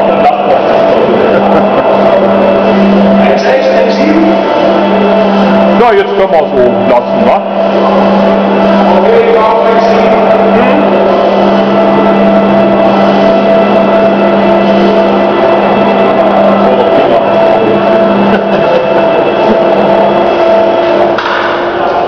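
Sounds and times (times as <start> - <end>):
electric motors humming and whining: 0.0 - 22.0.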